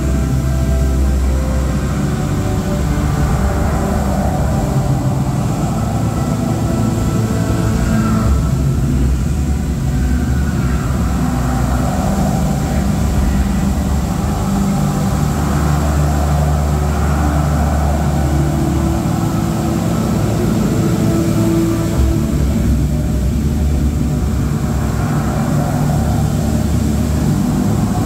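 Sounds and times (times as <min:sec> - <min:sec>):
held low tones: 0:00.0 - 0:28.0
steady low rumble: 0:00.0 - 0:28.0
water jets rushing: 0:00.0 - 0:28.0.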